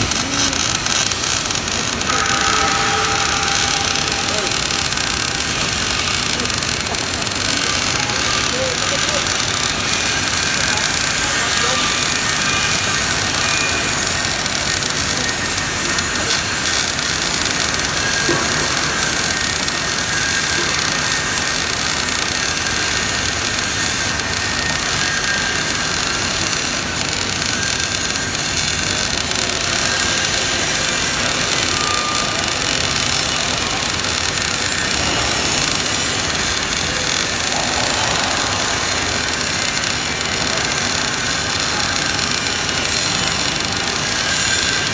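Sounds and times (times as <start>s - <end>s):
welding arc hissing: 0.0s - 44.9s.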